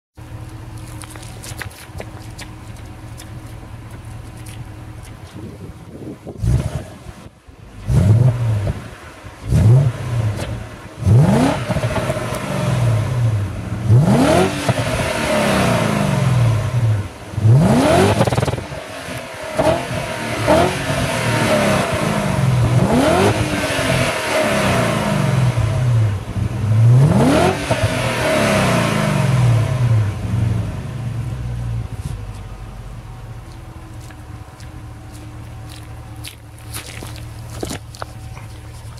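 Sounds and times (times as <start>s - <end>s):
car exhaust revving: 0.2s - 38.9s.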